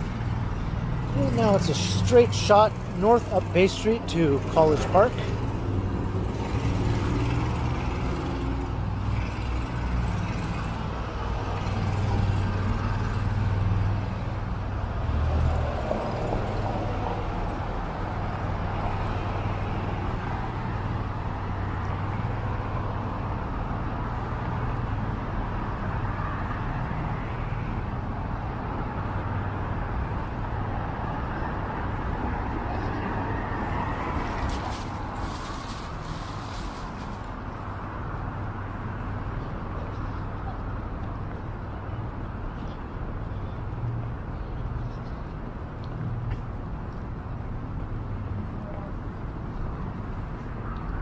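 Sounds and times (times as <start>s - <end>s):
traffic rumble: 0.0s - 51.0s.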